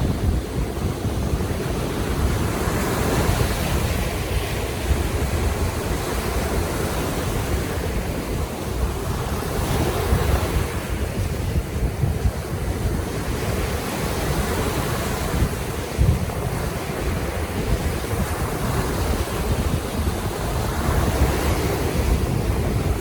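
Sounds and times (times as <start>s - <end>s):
waves washing on shore: 0.0s - 23.0s
wind rumbling on microphone: 0.0s - 23.0s.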